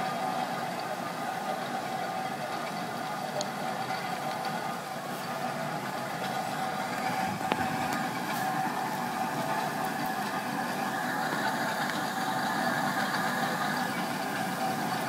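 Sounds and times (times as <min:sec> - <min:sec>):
steam engine running: 0:00.0 - 0:15.0.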